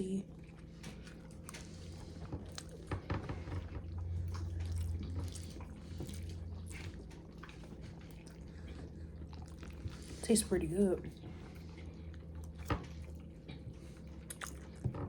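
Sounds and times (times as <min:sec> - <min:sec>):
wet clicks and smacks: 0:00.8 - 0:10.1, 0:11.5 - 0:15.0.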